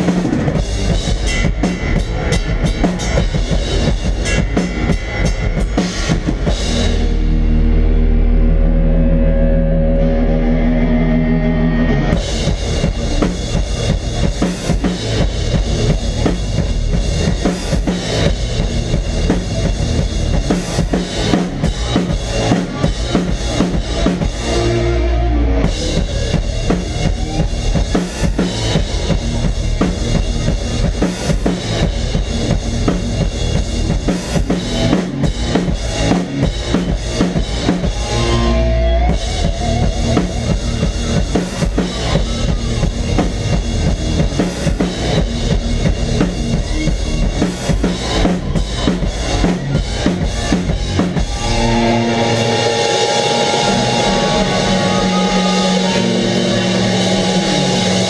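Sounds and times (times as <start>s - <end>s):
drum kit played hard: 0.0s - 7.8s, 12.1s - 58.0s
electric guitar and bass: 0.0s - 58.0s.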